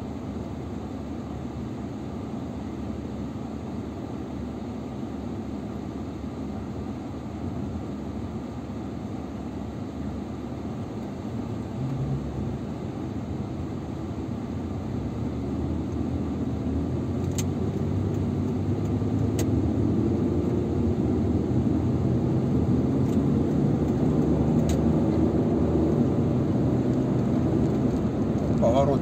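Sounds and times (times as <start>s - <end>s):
car engine: 0.0s - 29.0s
road noise inside car: 0.0s - 29.0s.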